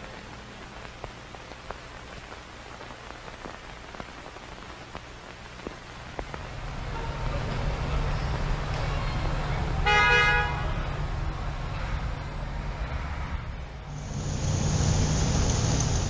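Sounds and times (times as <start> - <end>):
light rain pattering: 0.0 - 16.0.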